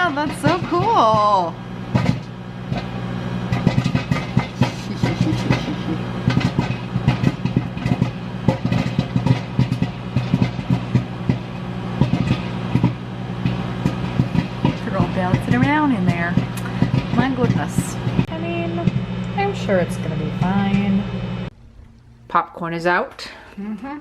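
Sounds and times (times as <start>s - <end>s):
popcorn popping: 0.0s - 21.8s
microwave oven hum: 0.0s - 24.0s.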